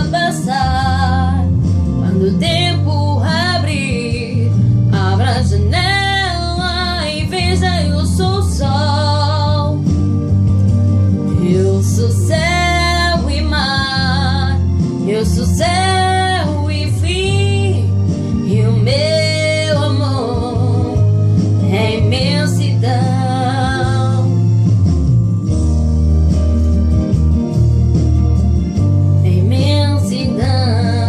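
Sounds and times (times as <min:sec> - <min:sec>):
young woman singing a ballad: 0:00.0 - 0:10.1, 0:11.2 - 0:24.7, 0:29.1 - 0:31.0
backing track with low bass: 0:00.0 - 0:31.0.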